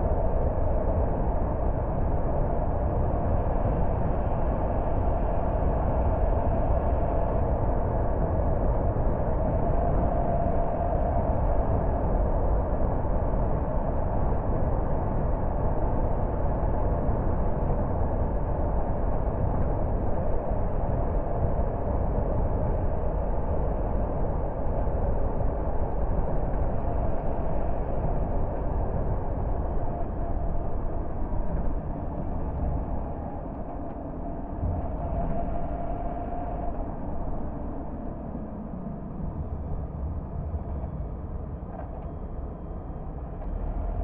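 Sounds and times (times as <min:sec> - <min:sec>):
car engine and tyre rumble: 0:00.0 - 0:44.0
faint steady hum: 0:00.0 - 0:44.0.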